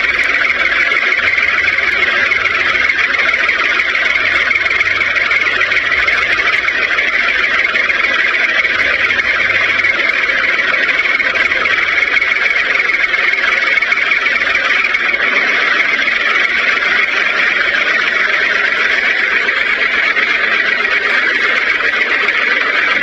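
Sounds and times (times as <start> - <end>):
small electric motor buzzing whine: 0.0 - 23.0.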